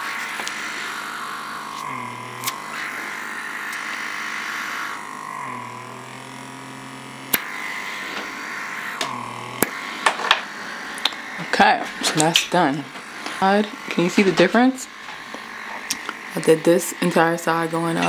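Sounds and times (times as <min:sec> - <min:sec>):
small suction motor humming: 0:00.0 - 0:18.0.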